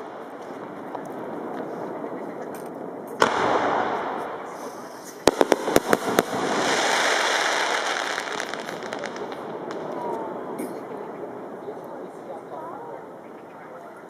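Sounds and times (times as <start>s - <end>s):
fireworks bang: 0.0s - 12.6s
fireworks rushing noise: 0.0s - 14.0s
fireworks sharp reports: 0.0s - 14.0s.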